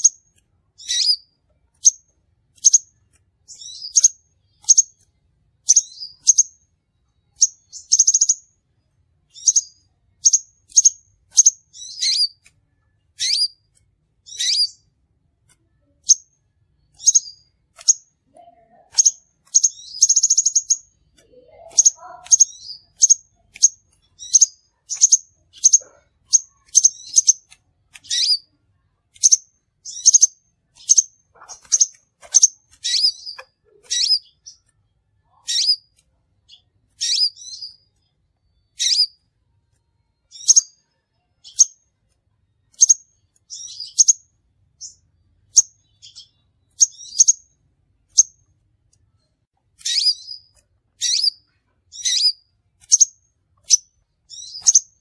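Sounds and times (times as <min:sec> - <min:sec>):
bird high sharp chirps: 0:00.8 - 0:06.6, 0:07.3 - 0:08.6, 0:09.3 - 0:12.5, 0:13.1 - 0:14.9, 0:15.8 - 0:34.7, 0:35.3 - 0:39.2, 0:40.2 - 0:41.8, 0:42.7 - 0:48.5, 0:49.8 - 0:55.0.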